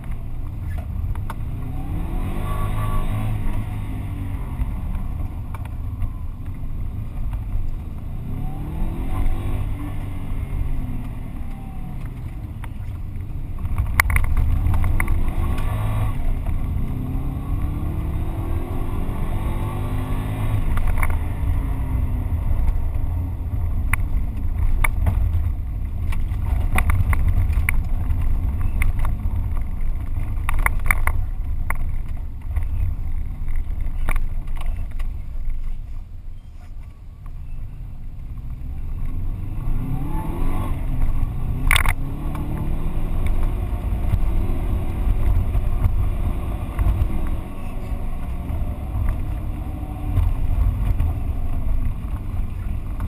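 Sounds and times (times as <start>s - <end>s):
rally car engine revving: 0.0s - 35.8s, 38.6s - 53.0s
road knocks and ticks: 0.0s - 53.0s.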